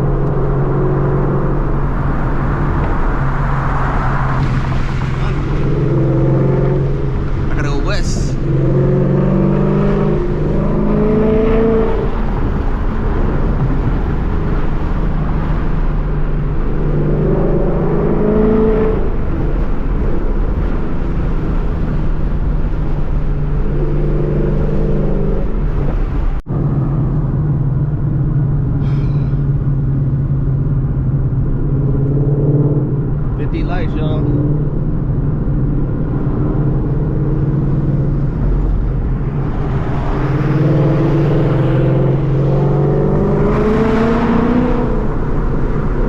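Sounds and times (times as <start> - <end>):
car engine running while driving: 0.0 - 46.0.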